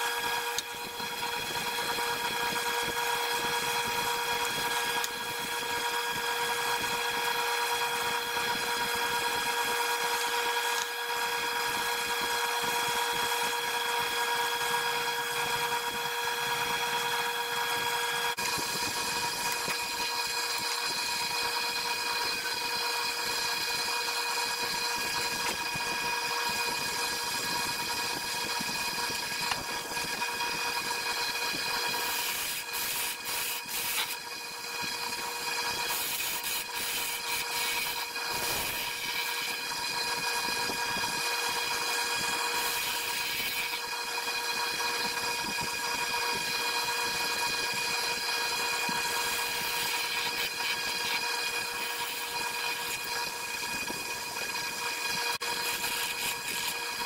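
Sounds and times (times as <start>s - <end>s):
tool rasping on wood: 0.0s - 57.0s
wood lathe motor whine: 0.0s - 57.0s.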